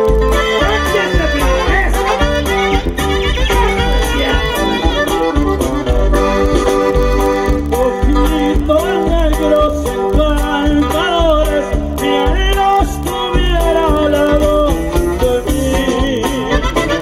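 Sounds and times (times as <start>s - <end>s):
accordion melody: 0.0s - 17.0s
bass and drum beat: 0.0s - 17.0s.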